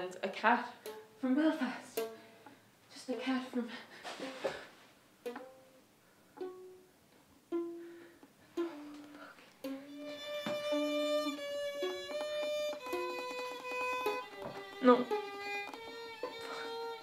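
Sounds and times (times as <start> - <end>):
violin notes: 0.6 - 4.6, 5.2 - 17.0.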